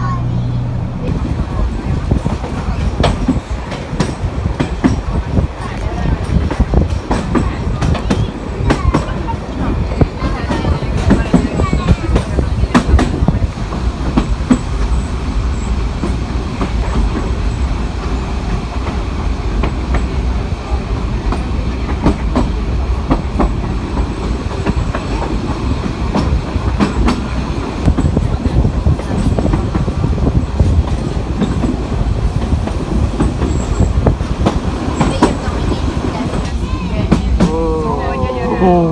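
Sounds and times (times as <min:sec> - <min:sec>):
train rumbling: 0:00.0 - 0:38.9
wheels clacking over rail joints: 0:01.0 - 0:38.2.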